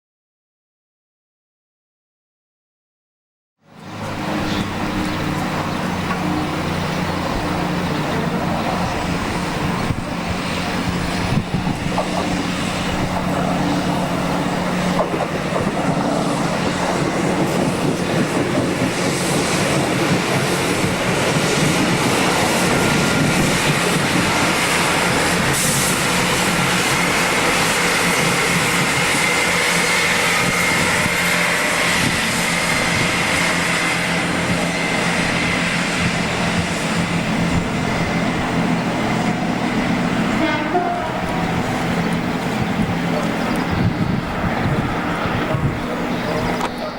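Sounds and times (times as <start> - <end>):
diesel engines humming: 3.6 - 46.9
train wheels rumbling on track: 3.6 - 46.9.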